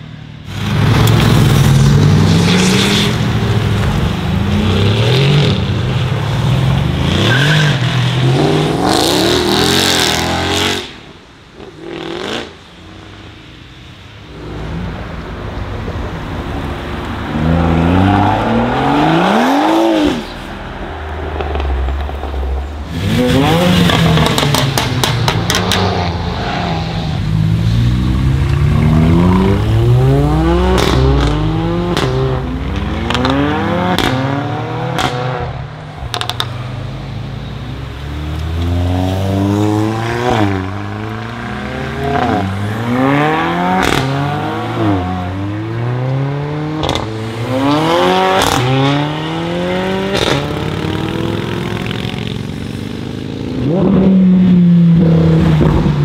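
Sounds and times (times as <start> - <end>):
car engines revving hard: 0.0 - 13.3, 16.1 - 56.0.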